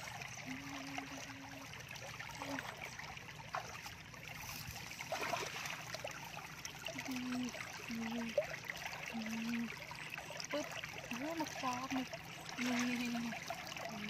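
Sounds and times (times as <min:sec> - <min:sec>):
muddy water sloshing around hands: 0:00.0 - 0:14.0.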